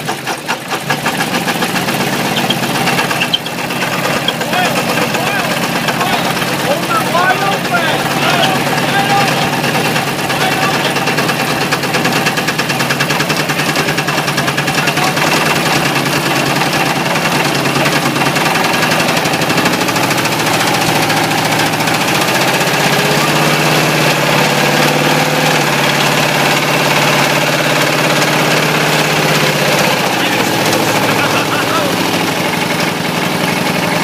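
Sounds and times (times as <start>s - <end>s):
engine running: 0.0s - 34.0s
metallic engine knock: 0.0s - 34.0s.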